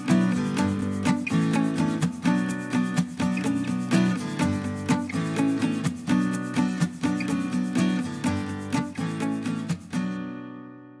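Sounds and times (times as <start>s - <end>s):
strummed guitar chords: 0.0s - 10.9s.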